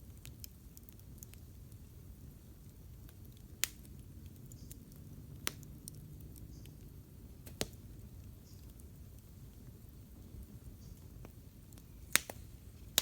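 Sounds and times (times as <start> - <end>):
campfire crackling: 0.0 - 13.0
sharp pops of burning wood: 0.0 - 13.0.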